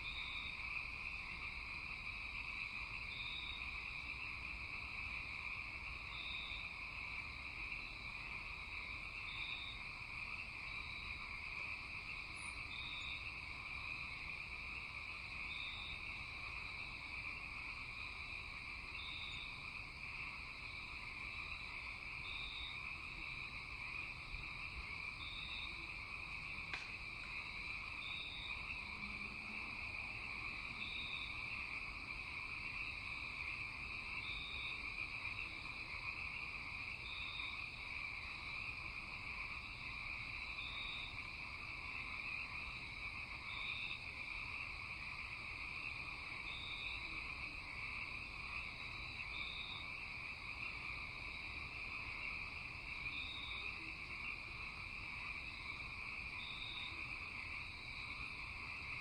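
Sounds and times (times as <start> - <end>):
frogs and insects trilling: 0.0 - 59.0.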